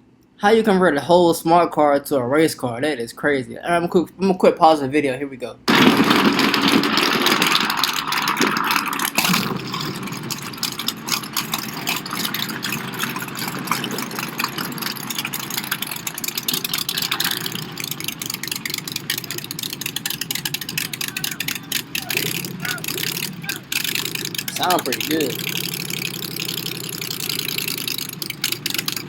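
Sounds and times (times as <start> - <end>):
race car engine exhaust pulses: 5.7 - 29.0.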